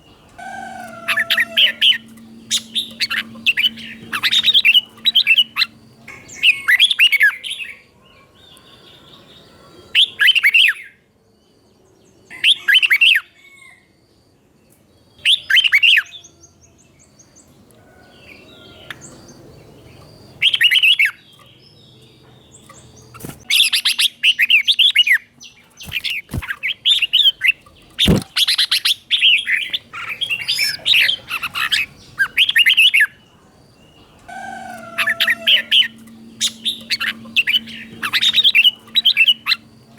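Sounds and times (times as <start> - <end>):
bird singing warbled phrases: 0.0 - 11.0, 15.1 - 17.5, 18.3 - 39.9.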